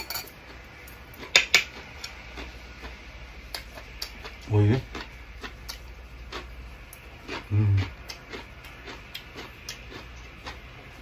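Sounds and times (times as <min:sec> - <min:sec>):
chewing and mouth clicks: 0:01.2 - 0:11.0.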